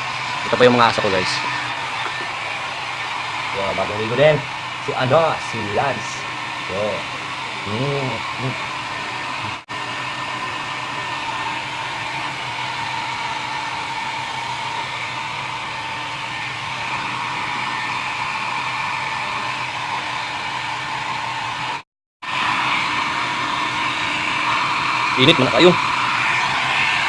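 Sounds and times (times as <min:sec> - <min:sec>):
hair dryer blowing air: 0:00.0 - 0:27.0.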